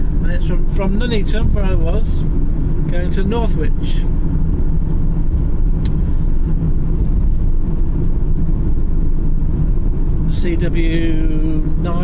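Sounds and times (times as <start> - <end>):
van engine and tyre drone: 0.0 - 12.0.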